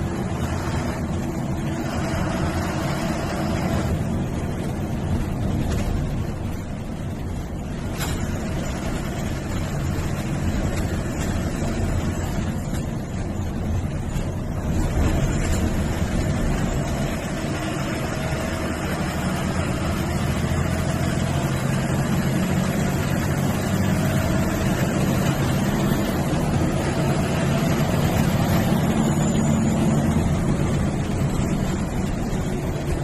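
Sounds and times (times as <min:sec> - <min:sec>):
tyre and wind rush: 0:00.0 - 0:21.4, 0:22.0 - 0:33.0
bus engine hum: 0:00.0 - 0:33.0.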